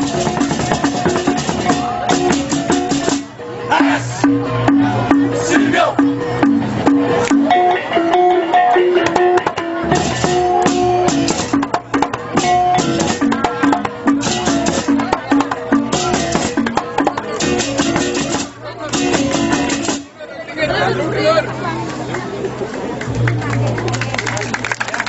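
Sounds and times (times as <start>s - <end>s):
drums: 0.0s - 20.2s.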